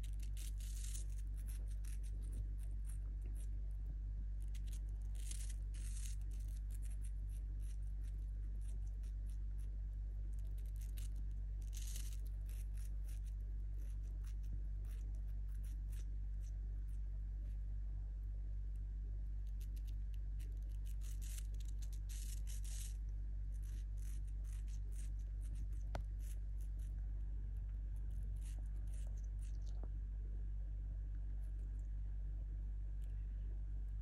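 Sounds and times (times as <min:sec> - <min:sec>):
bird chewing apple crunches: 0:00.0 - 0:17.6, 0:19.2 - 0:30.0
steady low hum: 0:00.0 - 0:34.0.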